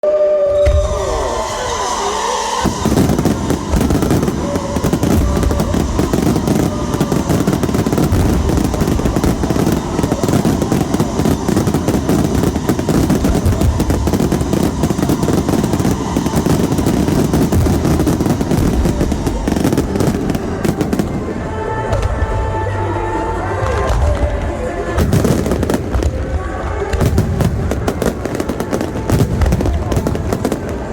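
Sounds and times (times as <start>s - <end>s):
music: 0.0s - 30.9s
fireworks bangs and crackling: 0.1s - 30.9s.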